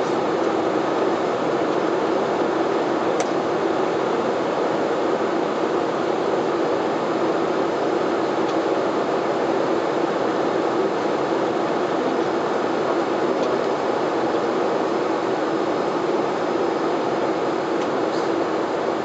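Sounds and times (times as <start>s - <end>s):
turboprop engines and airflow: 0.0s - 19.0s.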